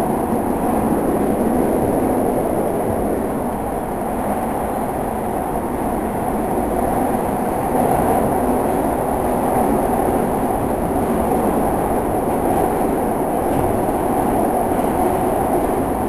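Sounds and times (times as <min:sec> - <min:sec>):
subway train wheels on rails: 0:00.0 - 0:16.0.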